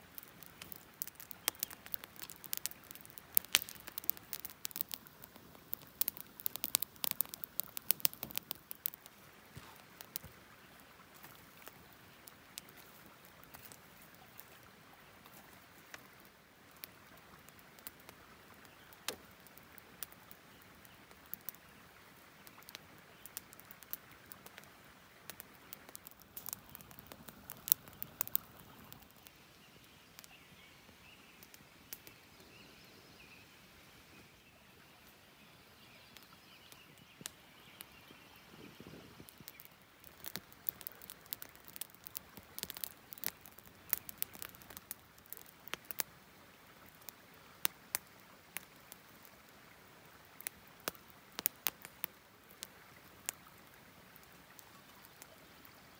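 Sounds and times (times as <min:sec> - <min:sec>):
campfire crackling and popping: 0:00.0 - 0:32.9, 0:35.0 - 0:55.9.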